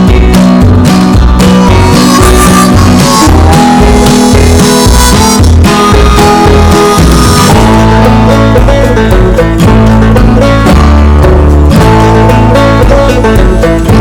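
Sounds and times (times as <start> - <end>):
instrumental music with steady beat: 0.0 - 14.0.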